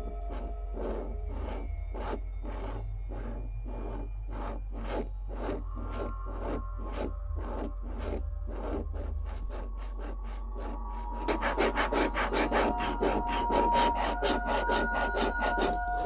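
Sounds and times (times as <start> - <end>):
pencil scribbling on paper: 0.0 - 16.0.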